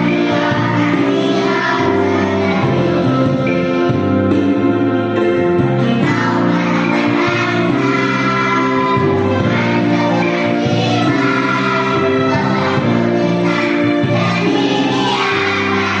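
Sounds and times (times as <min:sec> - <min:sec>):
choir singing: 0:00.0 - 0:03.2, 0:06.1 - 0:16.0.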